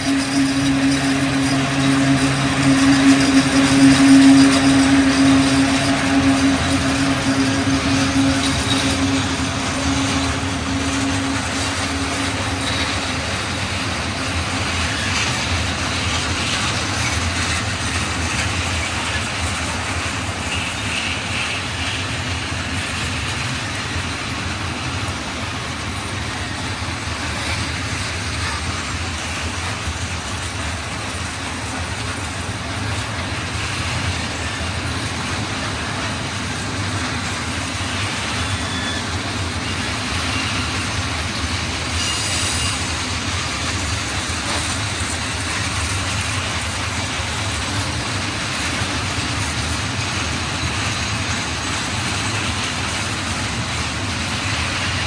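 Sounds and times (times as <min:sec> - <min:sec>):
freight train wheels on rails: 0:00.0 - 0:55.0
locomotive hum: 0:00.0 - 0:55.0.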